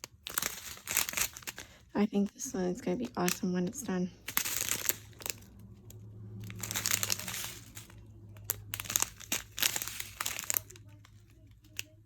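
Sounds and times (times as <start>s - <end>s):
plastic bags crinkling: 0.0s - 12.0s
sharp clicks and crackles: 0.0s - 12.0s.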